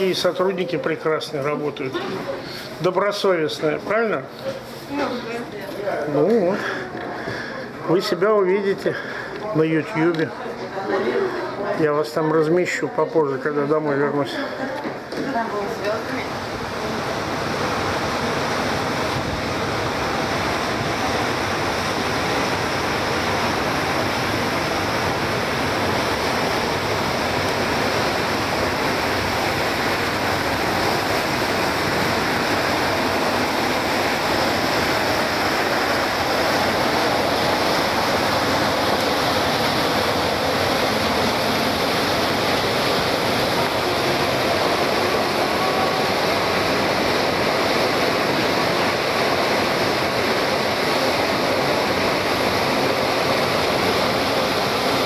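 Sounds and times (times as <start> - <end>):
rushing churned water: 0.0 - 55.0
wind: 8.6 - 55.0.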